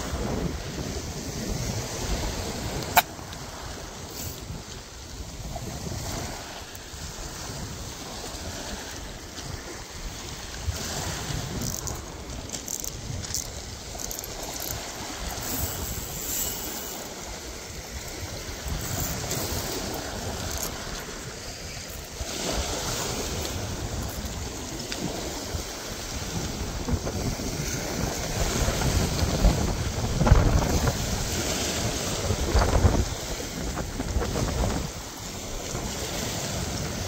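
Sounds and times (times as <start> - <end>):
small waves washing on beach: 0.0 - 37.0
wind buffeting microphone: 0.0 - 37.0.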